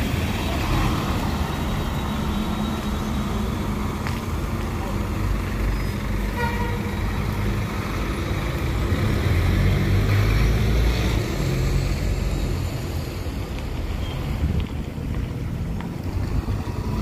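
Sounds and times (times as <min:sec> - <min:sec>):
bus drivetrain hum: 0:00.0 - 0:17.0
tyres on wet road: 0:00.0 - 0:17.0.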